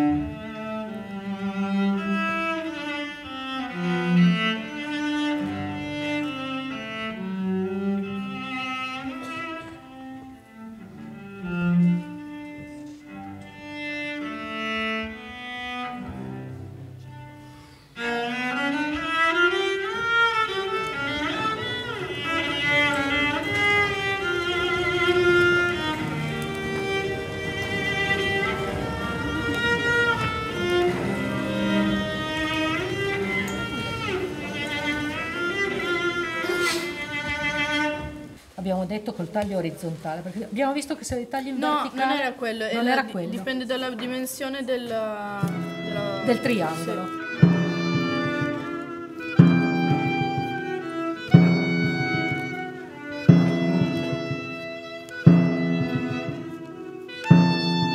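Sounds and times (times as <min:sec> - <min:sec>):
bowed string music: 0:00.0 - 0:38.4, 0:45.3 - 0:57.9.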